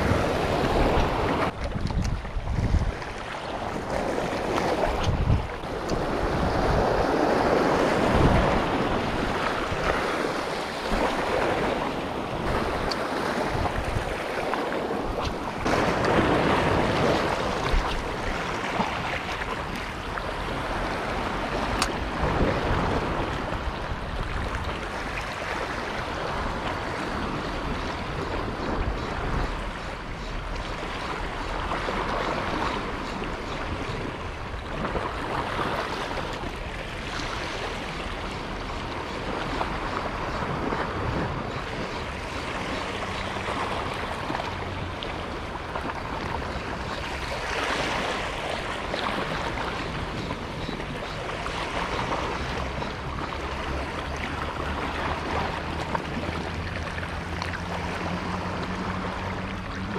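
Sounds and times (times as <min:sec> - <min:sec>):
sea waves breaking on rocks: 0:00.0 - 0:59.9
wind buffeting microphone: 0:00.0 - 0:59.9.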